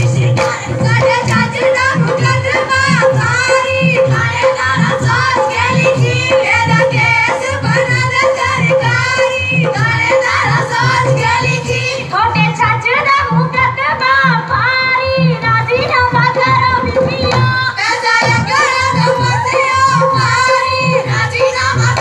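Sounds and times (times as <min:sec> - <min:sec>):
dholki drum beating: 0:00.0 - 0:22.0
women singing folk song: 0:00.0 - 0:22.0.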